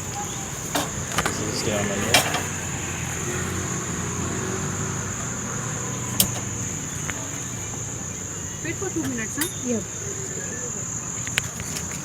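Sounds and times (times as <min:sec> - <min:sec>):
crickets droning: 0:00.0 - 0:12.0
vehicle engine hum: 0:00.0 - 0:12.0.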